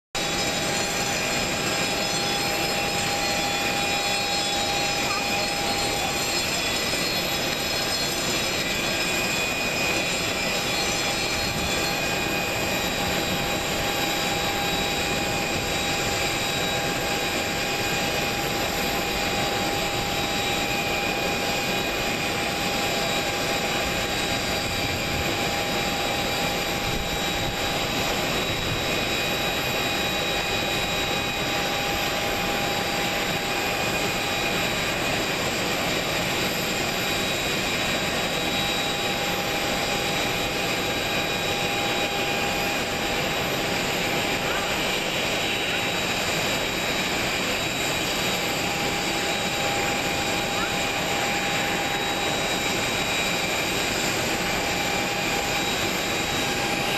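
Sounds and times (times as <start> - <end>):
high constant whistling tones: 0.1 - 56.9
jet turbines whine and rush: 0.2 - 56.9.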